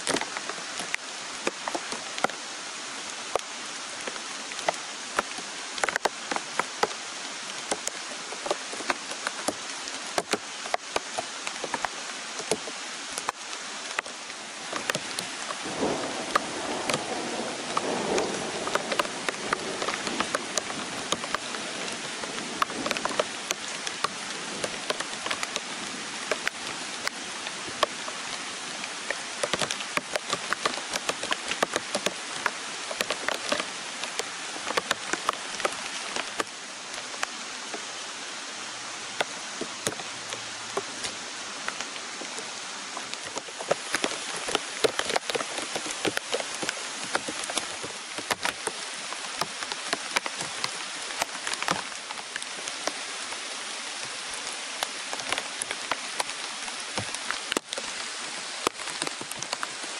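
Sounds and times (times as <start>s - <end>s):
steady rain hiss: 0.0s - 59.9s
raindrop taps: 3.3s - 7.0s, 7.7s - 36.5s, 39.1s - 53.4s, 54.3s - 59.9s.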